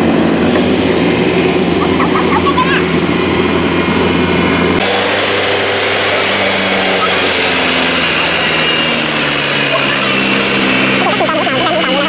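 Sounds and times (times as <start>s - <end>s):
diesel engine running: 0.0s - 12.0s
higher-pitched engine running: 0.0s - 12.0s.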